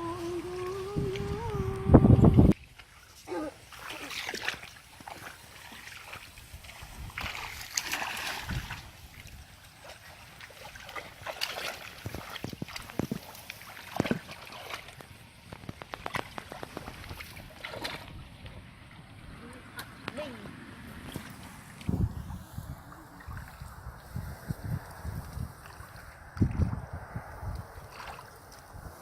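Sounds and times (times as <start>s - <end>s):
water splashing and sloshing: 0.0s - 29.0s.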